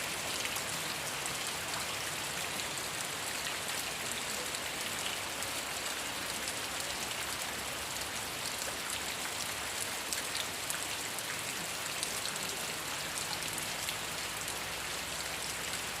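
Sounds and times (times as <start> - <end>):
raindrops ticking on surfaces: 0.0 - 16.0
steady rain falling: 0.0 - 16.0.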